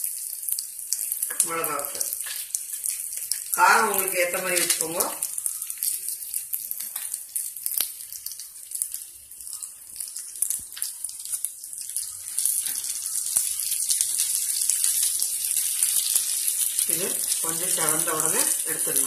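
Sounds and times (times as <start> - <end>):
lentils sizzling in oil: 0.0 - 19.0.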